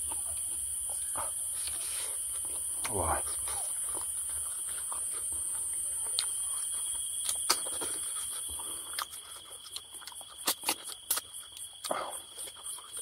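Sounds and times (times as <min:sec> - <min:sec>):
mouth clicks and smacks eating: 0:00.0 - 0:13.0
steady high-pitched hiss: 0:00.0 - 0:13.0.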